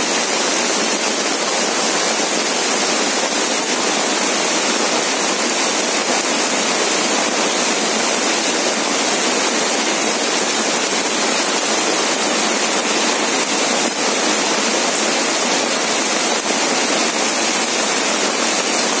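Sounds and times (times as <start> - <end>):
heavy rain and hail: 0.0 - 19.0.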